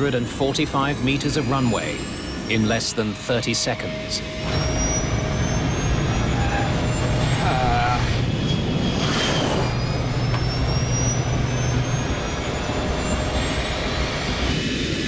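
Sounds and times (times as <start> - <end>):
jet engines in reverse thrust: 0.0 - 15.0.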